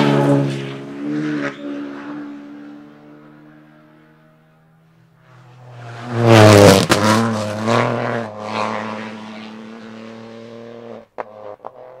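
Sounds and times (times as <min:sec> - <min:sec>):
rally car passing at speed: 0:00.0 - 0:12.0.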